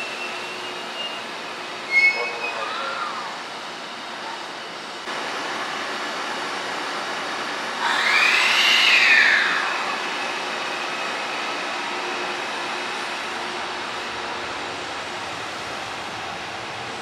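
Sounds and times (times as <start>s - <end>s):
electric train running: 0.0s - 17.0s
train inverter whine: 0.0s - 17.0s.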